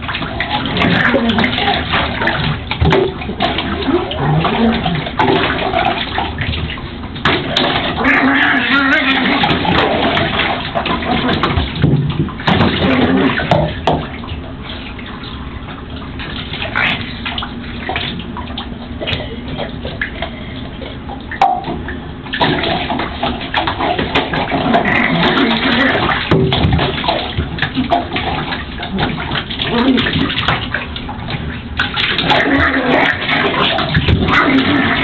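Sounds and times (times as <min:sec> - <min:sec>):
water splashing in a bathtub: 0:00.0 - 0:35.0.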